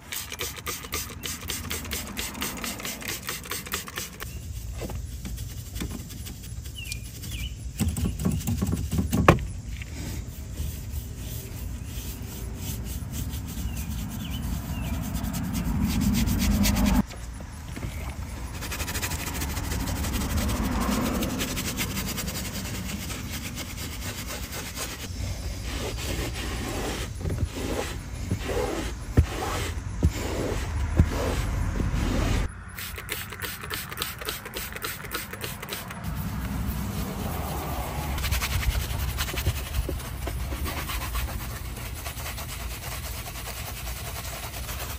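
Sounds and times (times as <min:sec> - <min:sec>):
scrubbing car surfaces: 0:00.0 - 0:17.3, 0:17.9 - 0:44.9.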